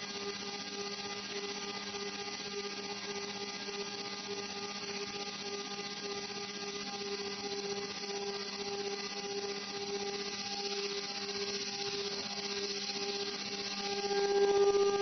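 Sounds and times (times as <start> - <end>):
milling spindle whine: 0.1 - 15.0.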